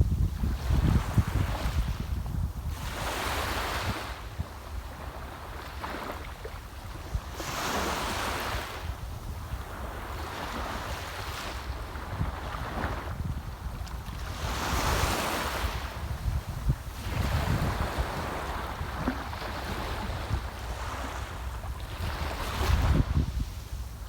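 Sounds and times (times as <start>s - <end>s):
wind buffeting microphone: 0.0s - 6.0s, 6.8s - 24.0s.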